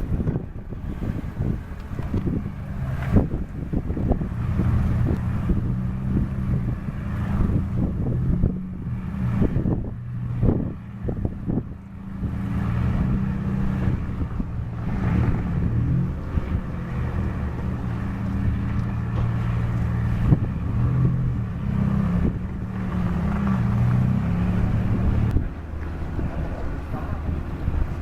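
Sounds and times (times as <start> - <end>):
low engine drone: 0.0 - 28.0
wind buffeting microphone: 0.0 - 28.0.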